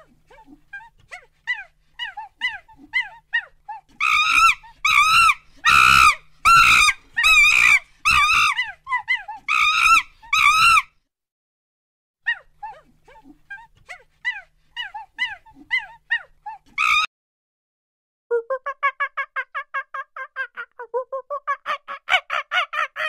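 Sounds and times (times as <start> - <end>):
monkey chirps and screams: 0.3 - 10.9, 12.3 - 17.1, 18.5 - 23.0.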